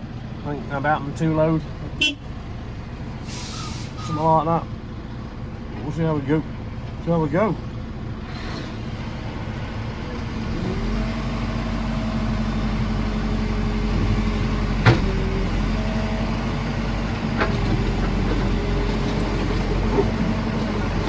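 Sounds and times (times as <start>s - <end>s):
diesel engine running and revving: 0.0s - 21.0s.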